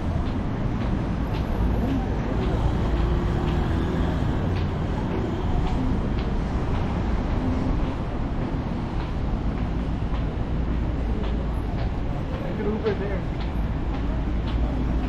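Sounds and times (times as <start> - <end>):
faint voices: 0.0 - 15.0
footsteps ticking: 0.0 - 15.0
low rumble of traffic: 0.0 - 15.0.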